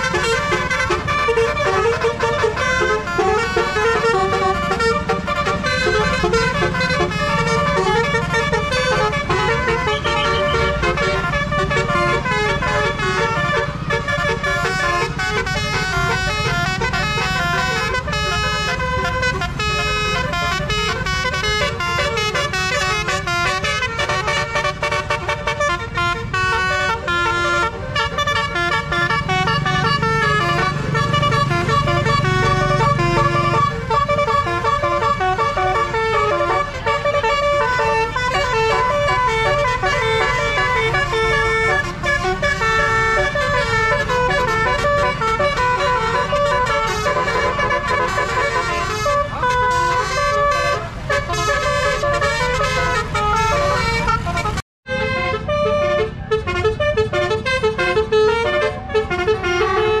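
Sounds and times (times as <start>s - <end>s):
musical air horn tune: 0.0s - 60.0s.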